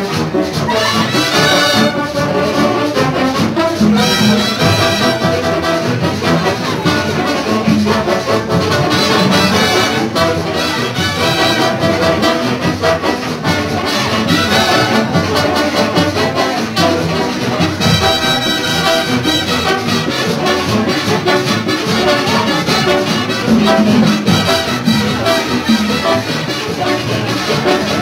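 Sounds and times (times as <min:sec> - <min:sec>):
latin big band brass music: 0:00.0 - 0:28.0.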